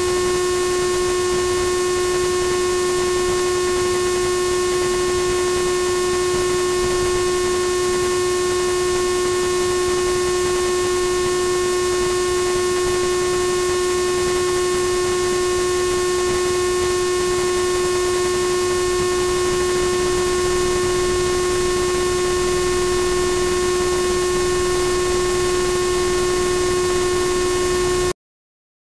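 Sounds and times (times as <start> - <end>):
steady hum: 0.0 - 28.2.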